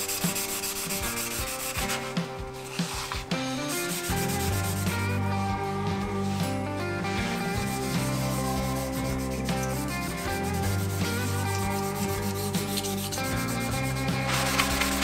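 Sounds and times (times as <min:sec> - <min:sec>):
scratchy wiping: 0:00.0 - 0:05.2, 0:06.0 - 0:15.0
abrasive pad rubbing wood: 0:00.0 - 0:15.0
soft background music: 0:00.0 - 0:15.0.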